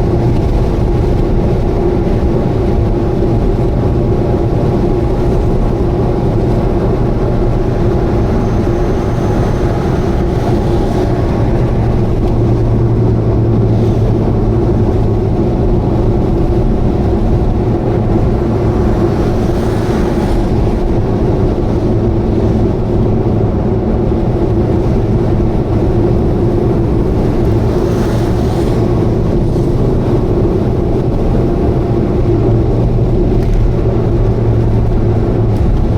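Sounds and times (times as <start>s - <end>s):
car engine and exhaust drone: 0.0s - 35.9s
road noise: 0.0s - 35.9s.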